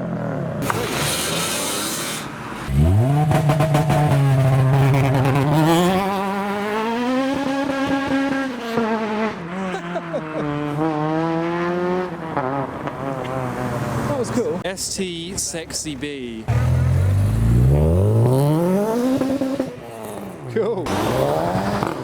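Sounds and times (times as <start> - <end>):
car engine revving hard: 0.6 - 14.3, 16.5 - 20.3, 20.9 - 22.0.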